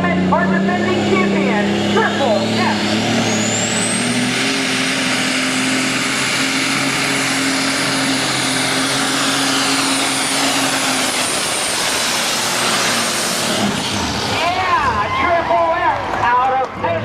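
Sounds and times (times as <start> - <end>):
diesel tractor engine din: 0.0 - 17.0
turbocharger whine: 0.0 - 17.0.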